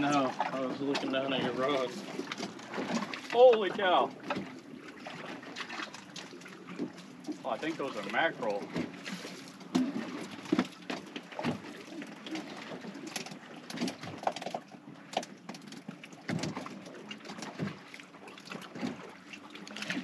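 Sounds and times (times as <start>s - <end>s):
waves lapping against boat hull: 0.0s - 20.0s.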